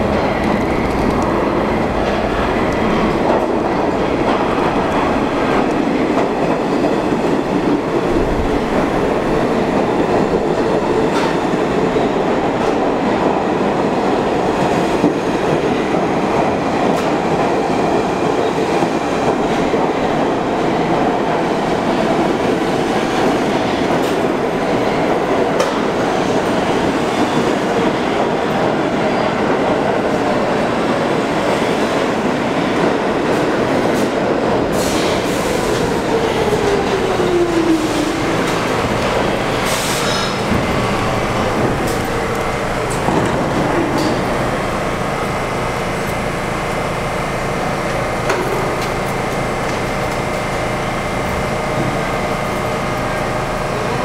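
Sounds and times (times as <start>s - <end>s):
subway train wheels on rails: 0.0s - 54.0s.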